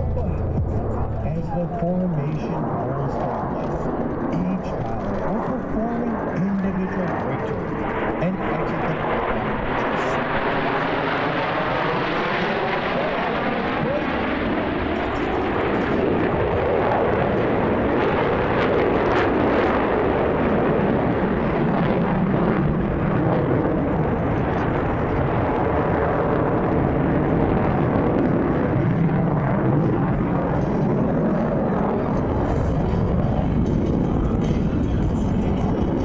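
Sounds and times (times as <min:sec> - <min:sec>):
jet engines roaring overhead: 0:00.0 - 0:36.0.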